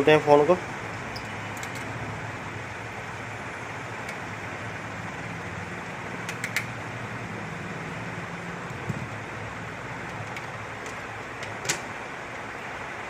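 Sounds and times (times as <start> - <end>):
steady background hum and hiss: 0.0 - 13.0.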